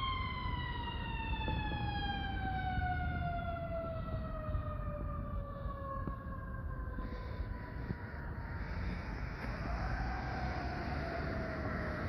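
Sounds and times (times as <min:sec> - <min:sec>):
fire truck siren winding down: 0:00.0 - 0:12.0.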